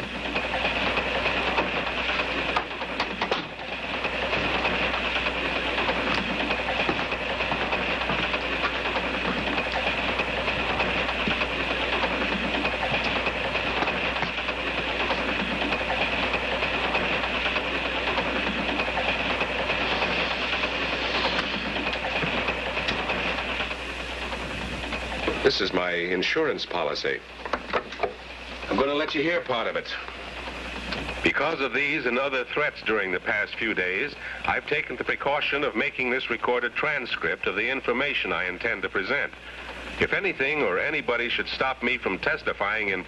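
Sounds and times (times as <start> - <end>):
train rumbling inside carriage: 0.0 - 43.0.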